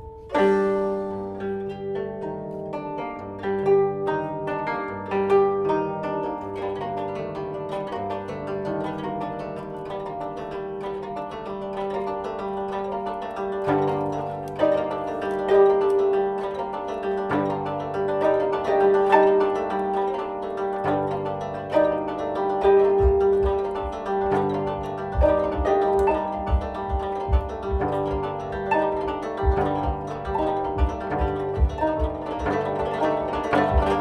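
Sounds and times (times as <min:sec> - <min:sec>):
plucked zither melody: 0:00.0 - 0:34.0.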